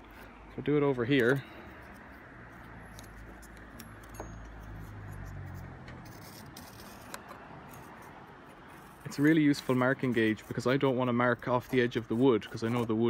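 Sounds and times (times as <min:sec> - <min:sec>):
faint scratching on wood: 0:00.0 - 0:13.0.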